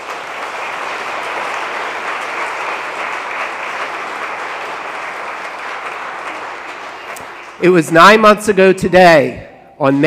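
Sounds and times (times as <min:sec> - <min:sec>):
congregation applauding: 0:00.0 - 0:09.2.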